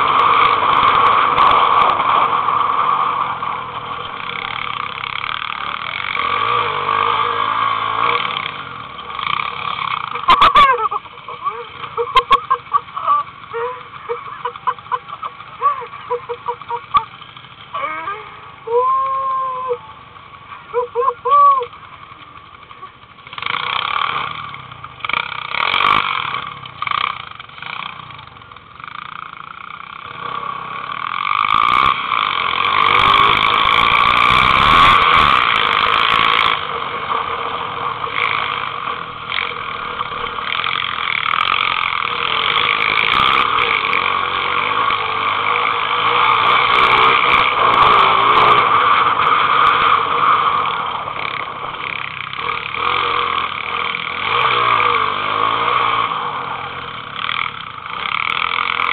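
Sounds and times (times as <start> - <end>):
small motorbike engine revving: 0.0 - 58.9.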